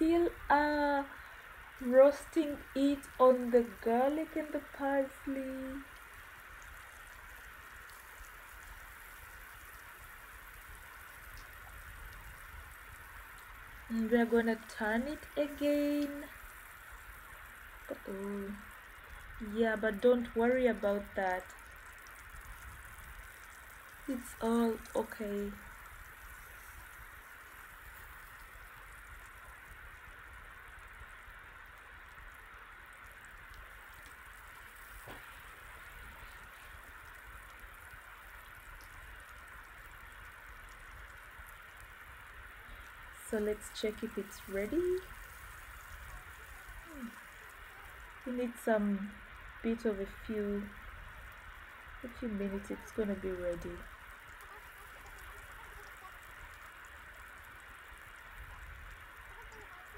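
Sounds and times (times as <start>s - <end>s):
fish sizzling in a pan: 0.0s - 59.9s.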